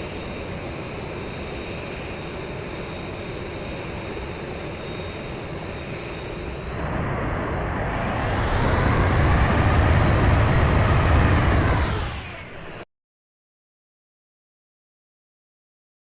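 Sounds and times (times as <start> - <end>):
jet engines powering up: 0.0 - 12.9.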